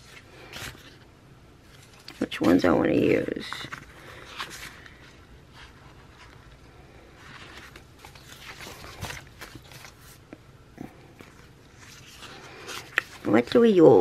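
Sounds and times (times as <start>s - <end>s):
rustling of sticker sheets: 0.0s - 14.0s.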